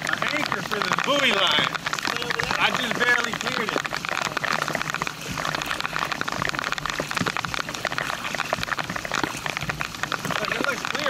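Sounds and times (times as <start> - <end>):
paddle splashing in water: 0.0 - 11.0
rain falling on water: 0.0 - 11.0.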